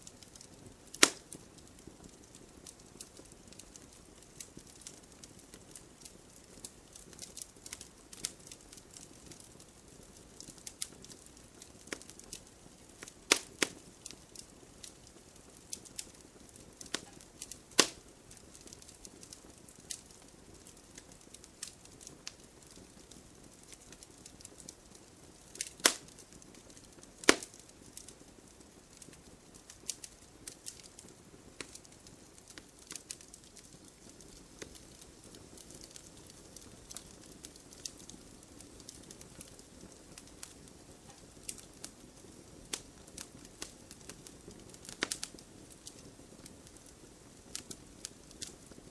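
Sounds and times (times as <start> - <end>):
wood fire crackling: 0.0 - 48.9
sharp fire pops: 0.2 - 9.6, 10.3 - 48.8.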